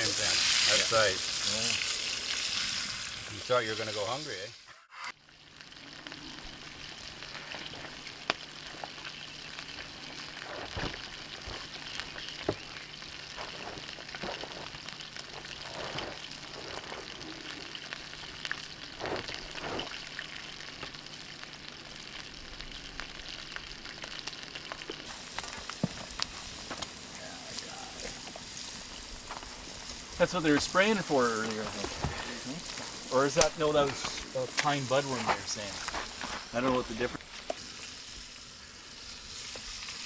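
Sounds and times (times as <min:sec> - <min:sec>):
fish sizzling in a pan: 0:00.0 - 0:40.0
crackles and pops: 0:04.9 - 0:40.0.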